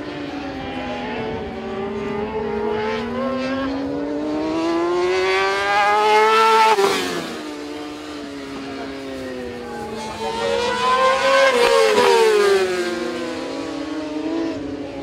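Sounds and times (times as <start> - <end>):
motorcycle engine accelerating: 0.0 - 15.0
motorcycle engines running: 0.0 - 15.0.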